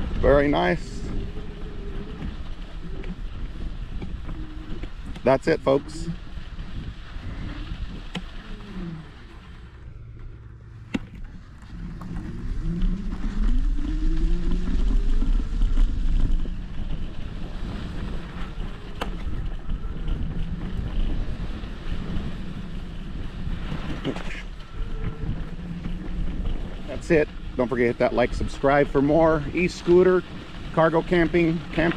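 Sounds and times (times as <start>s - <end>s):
electric scooter motor whine: 0.0s - 5.3s, 6.2s - 28.8s
low rumble from riding: 0.0s - 31.9s
wind buffeting microphone: 0.0s - 31.9s.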